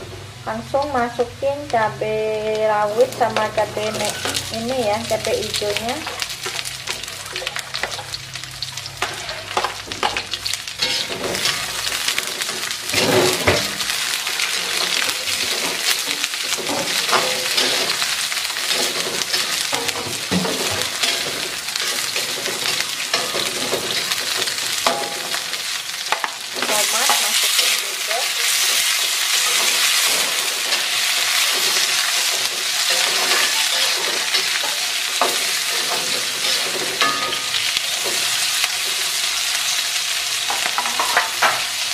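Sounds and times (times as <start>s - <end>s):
food sizzling in oil: 0.0s - 41.9s
spatula scraping and knocking wok: 3.3s - 41.9s.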